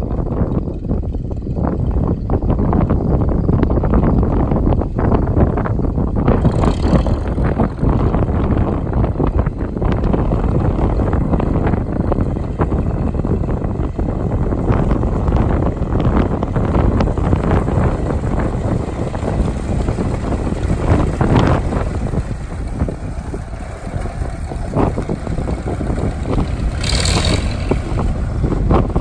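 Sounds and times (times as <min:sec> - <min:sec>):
tractor engine driving past: 0:00.0 - 0:29.0
wind buffeting microphone: 0:00.0 - 0:29.0.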